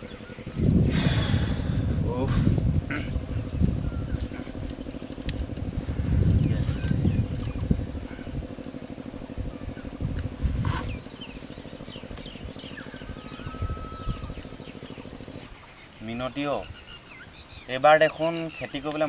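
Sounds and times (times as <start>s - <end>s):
birds chirping: 0.0s - 19.0s
engine droning: 0.0s - 19.0s.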